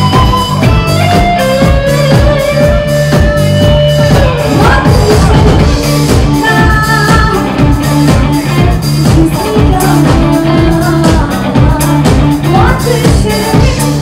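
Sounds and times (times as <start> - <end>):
rock band playing loudly: 0.0 - 14.0.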